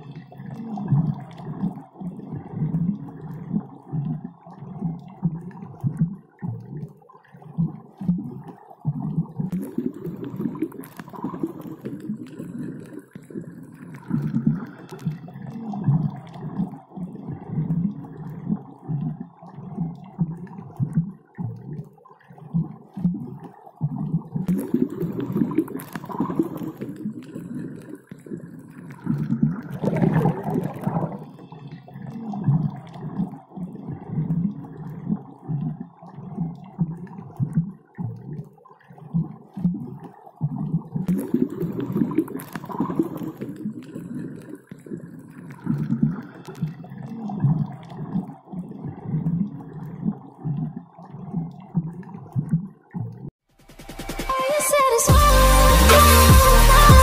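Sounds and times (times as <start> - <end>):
underwater gurgling and bubbling: 0.0 - 53.3.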